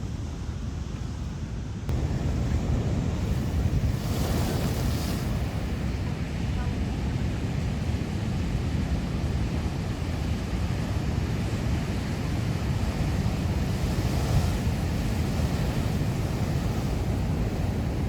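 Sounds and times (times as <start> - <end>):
ocean waves breaking: 1.9 - 18.0
wind buffeting microphone: 1.9 - 18.0.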